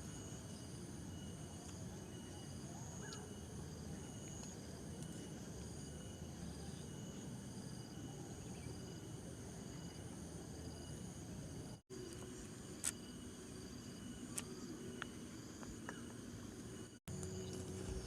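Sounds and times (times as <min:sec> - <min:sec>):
faint insects chirping: 0:00.0 - 0:18.0.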